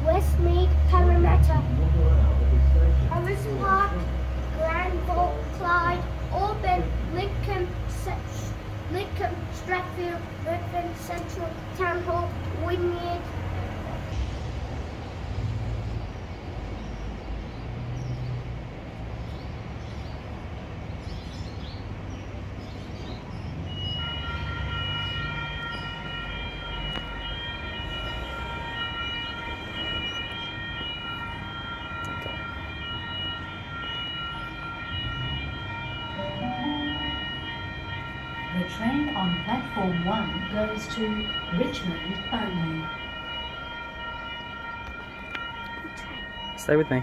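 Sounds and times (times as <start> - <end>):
level crossing warning bells: 0.0 - 14.8, 15.4 - 47.0.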